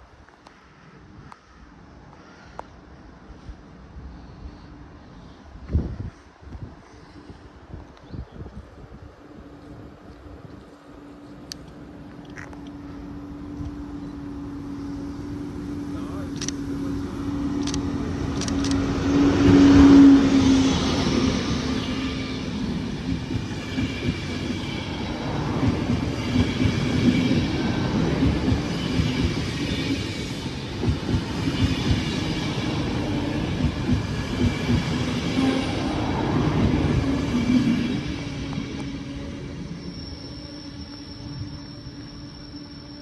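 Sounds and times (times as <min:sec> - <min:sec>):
train passing hum: 0:00.0 - 0:43.0.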